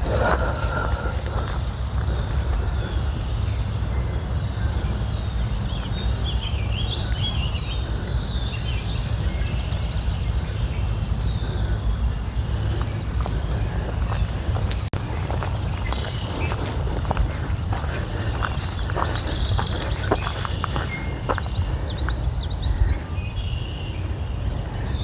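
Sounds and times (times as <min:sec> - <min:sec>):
birds singing: 0:00.0 - 0:25.0
steady low rumble: 0:00.0 - 0:25.0.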